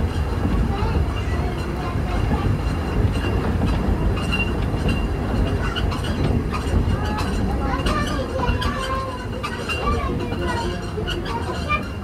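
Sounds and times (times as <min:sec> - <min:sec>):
train running rumble: 0:00.0 - 0:12.0
wheels rattling and clicking on track: 0:00.0 - 0:12.0.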